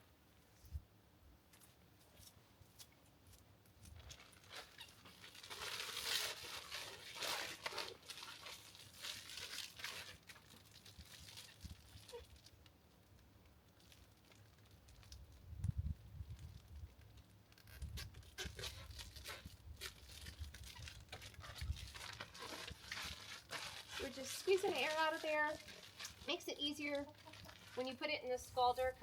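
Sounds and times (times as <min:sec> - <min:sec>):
plastic bags crinkling: 0:03.8 - 0:12.7, 0:13.6 - 0:15.4, 0:16.2 - 0:29.0.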